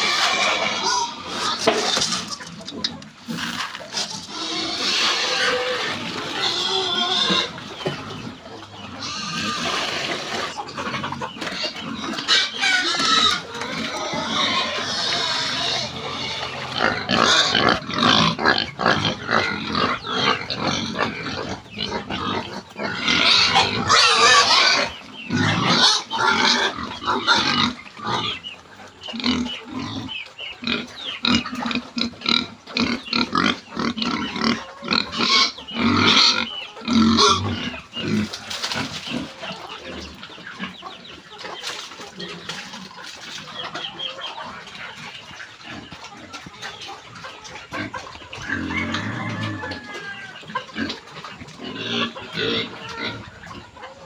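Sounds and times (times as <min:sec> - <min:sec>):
pigs squealing and grunting: 0:00.0 - 0:54.0.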